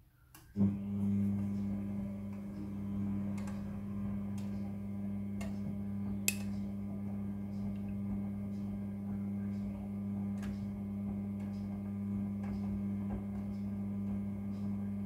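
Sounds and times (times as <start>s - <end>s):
washing machine motor hum: 0.4s - 15.0s.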